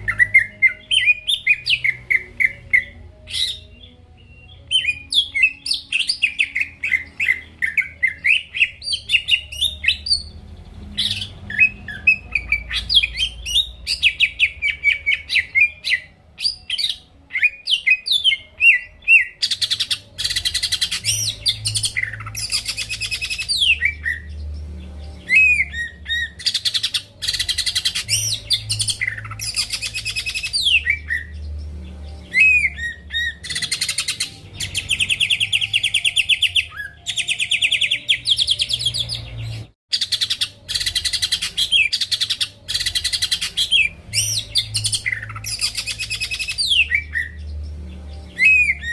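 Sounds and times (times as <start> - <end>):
bird singing trills and whistles: 0.0 - 48.9.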